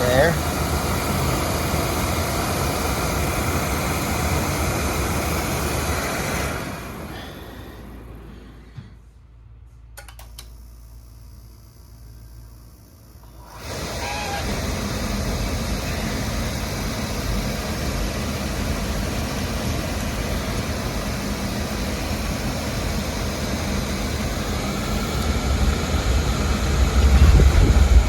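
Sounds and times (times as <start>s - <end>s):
oil burner rushing: 0.0s - 9.2s, 12.5s - 28.0s.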